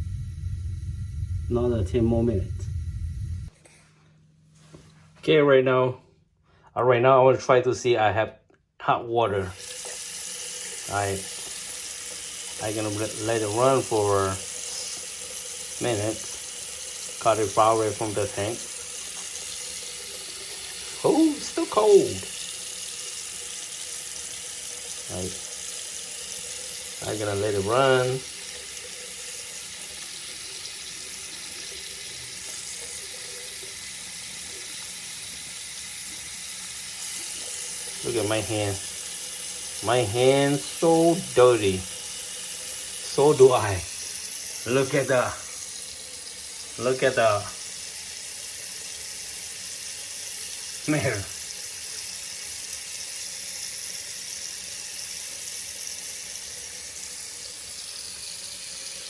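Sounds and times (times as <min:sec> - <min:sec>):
water running from tap: 0:09.2 - 0:59.0.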